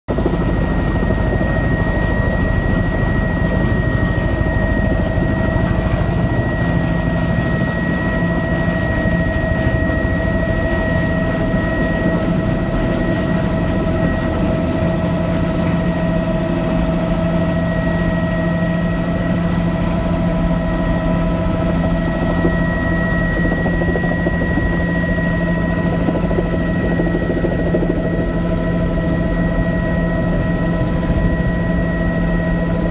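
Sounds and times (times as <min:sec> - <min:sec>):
helicopter rotor and engine rumble: 0:00.1 - 0:32.9.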